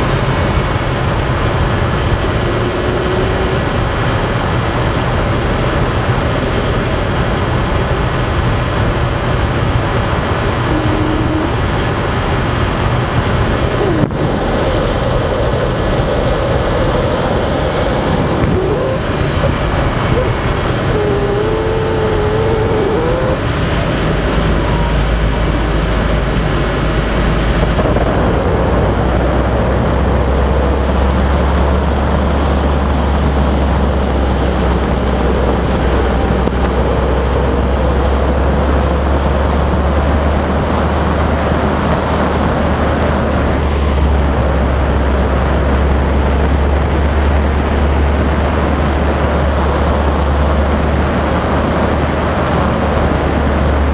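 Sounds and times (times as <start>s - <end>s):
wind rush: 0.0s - 43.5s
motor and propeller drone: 0.0s - 53.9s.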